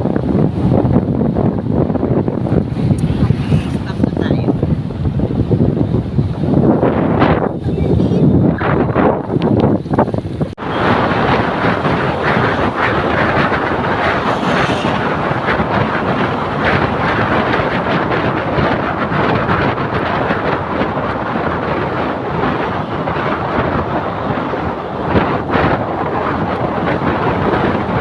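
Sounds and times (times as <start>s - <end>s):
moving vehicle rushing noise: 0.0s - 28.0s
wind buffeting microphone: 0.0s - 28.0s.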